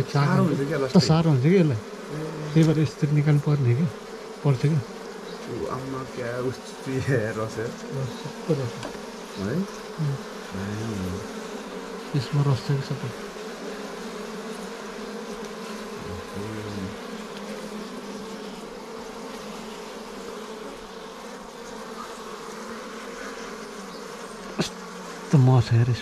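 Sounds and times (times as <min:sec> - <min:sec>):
honeybees buzzing: 0:00.0 - 0:26.0.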